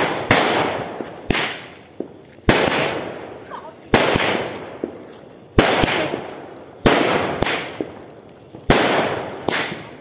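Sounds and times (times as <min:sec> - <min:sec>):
firework bangs: 0:00.0 - 0:10.0
firework crackle: 0:00.0 - 0:10.0
small firework pops: 0:00.0 - 0:10.0.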